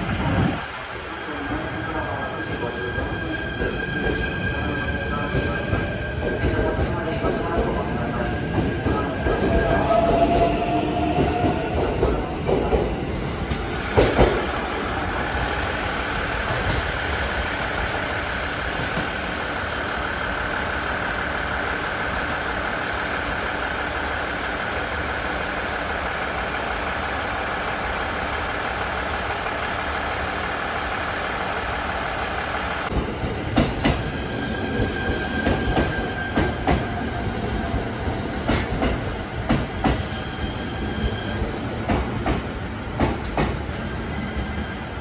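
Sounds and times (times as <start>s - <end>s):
train humming with high whine: 0.0s - 45.0s.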